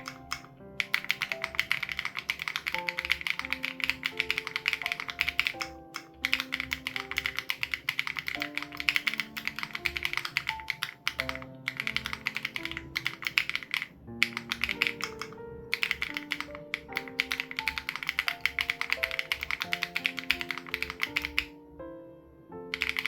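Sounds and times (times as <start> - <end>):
rapid typing on mechanical keyboard: 0.0 - 21.6, 22.7 - 23.0.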